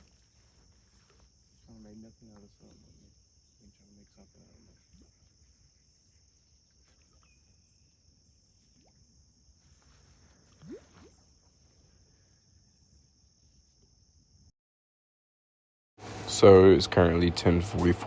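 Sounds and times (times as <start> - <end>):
crickets chirring: 0.0 - 14.5.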